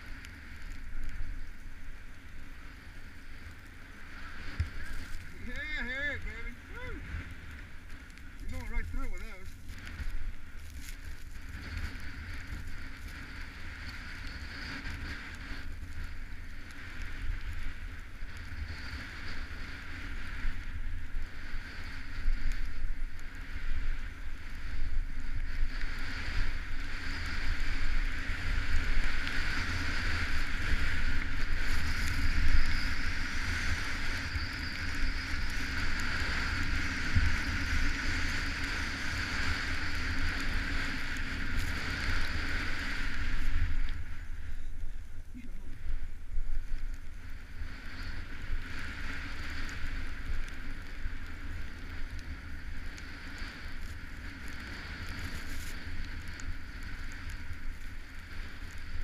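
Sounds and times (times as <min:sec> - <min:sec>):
skis sliding on snow: 0:00.0 - 0:59.0
wind rushing over microphone: 0:00.0 - 0:59.0.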